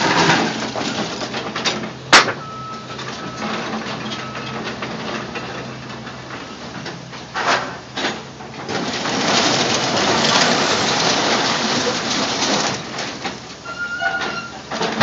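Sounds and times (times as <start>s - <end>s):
excavator bucket crunching metal: 0.0s - 15.0s
grinding and crumpling metal: 0.0s - 15.0s.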